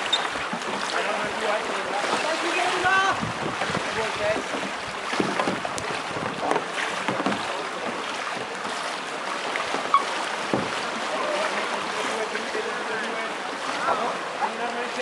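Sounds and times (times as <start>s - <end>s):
kayaks splashing in water: 0.0s - 15.0s
paddles knocking boats: 0.0s - 15.0s.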